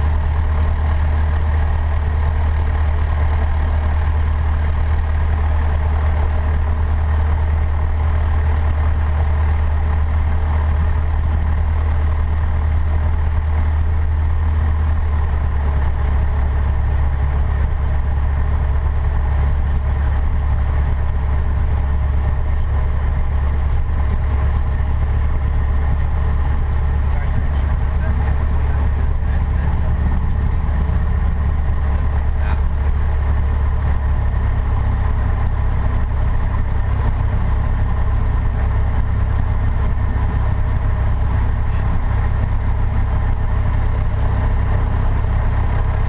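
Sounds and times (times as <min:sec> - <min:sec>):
light aircraft engine and propeller: 0:00.0 - 0:46.0.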